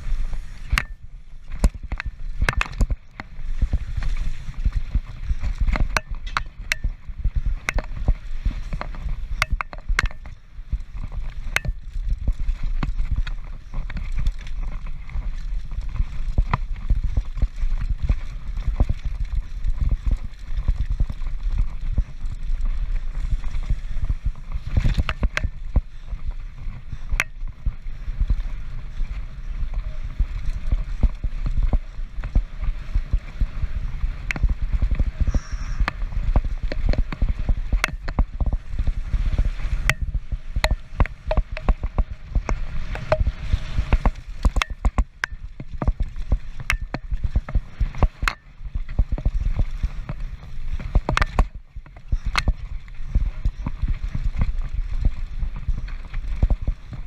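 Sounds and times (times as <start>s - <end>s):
wind rumble on microphone: 0.0s - 57.0s
bike clacking and rattling: 0.3s - 57.0s.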